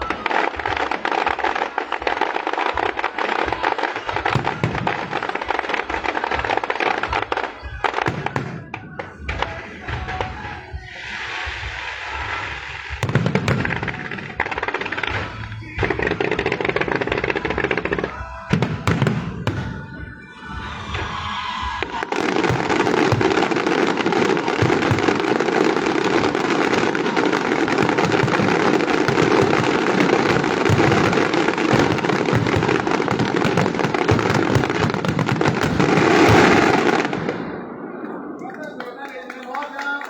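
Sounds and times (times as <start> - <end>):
fireworks banging and crackling: 0.0 - 40.0.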